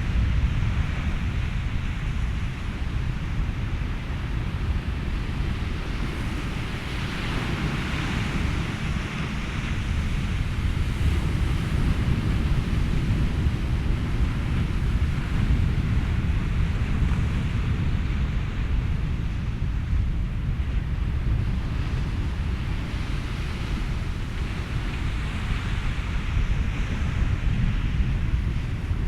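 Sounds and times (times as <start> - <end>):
ocean surf: 0.0 - 29.0
steady white noise: 0.0 - 29.0
wind: 0.0 - 29.0.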